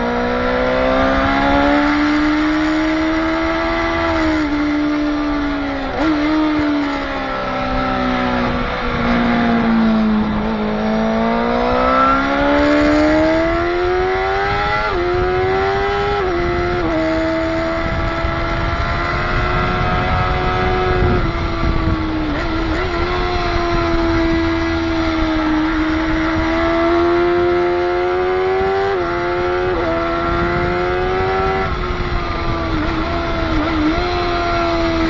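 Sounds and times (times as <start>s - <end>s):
motorcycle engine accelerating: 0.0s - 35.0s
wind rush: 0.0s - 35.0s.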